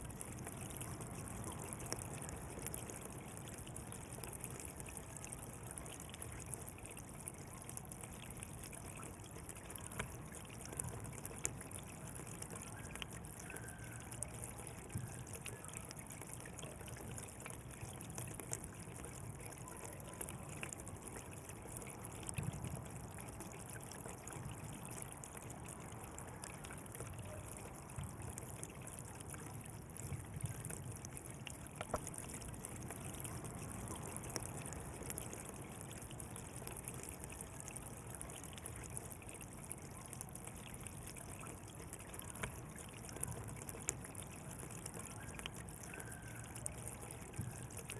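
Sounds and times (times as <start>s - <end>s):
small splashes and drips: 0.0s - 47.9s
water trickling in a channel: 0.0s - 47.9s.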